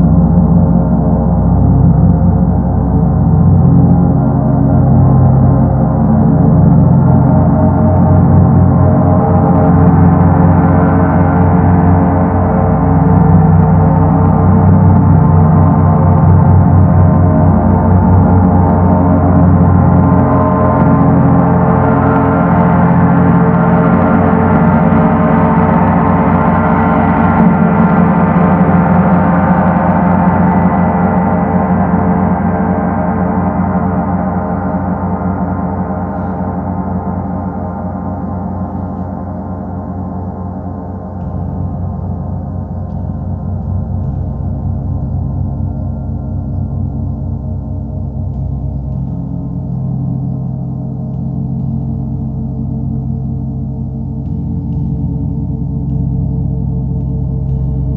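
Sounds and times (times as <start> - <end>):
gong ringing with rumbling overtones: 0.0 - 57.9.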